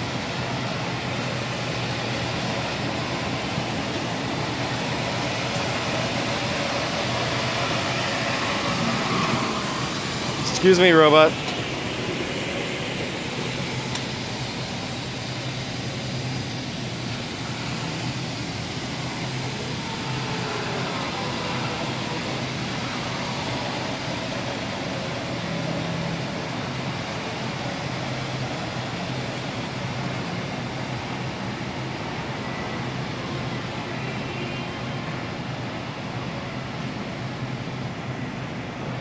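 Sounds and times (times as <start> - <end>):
floor scrubber running: 0.0 - 33.4
refrigerated display cases droning: 0.0 - 39.0.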